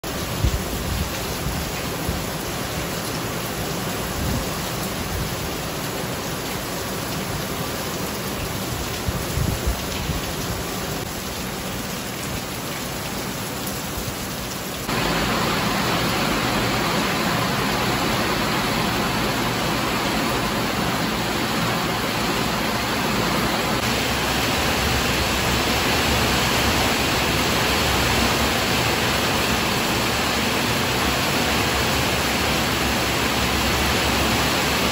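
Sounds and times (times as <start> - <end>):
heavy rain on roofs and pavement: 0.0 - 34.9.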